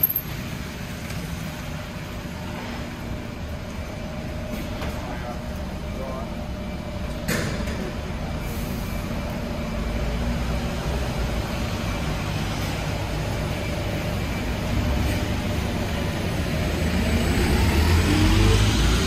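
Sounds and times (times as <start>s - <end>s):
heavy vehicle engine rumbling: 0.0s - 19.0s.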